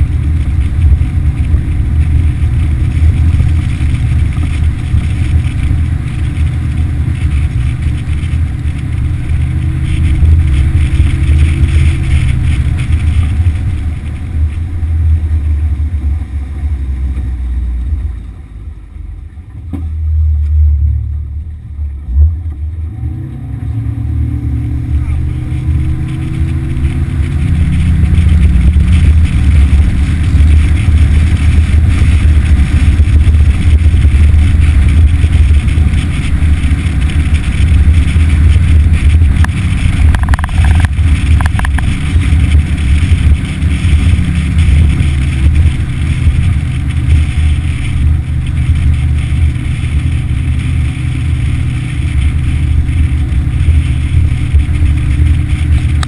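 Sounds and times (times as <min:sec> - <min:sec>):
outboard motor droning: 0:00.0 - 0:56.0.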